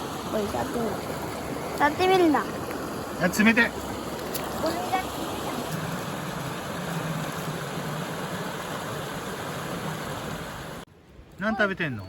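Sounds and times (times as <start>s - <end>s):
mountain stream rushing: 0.0s - 11.8s.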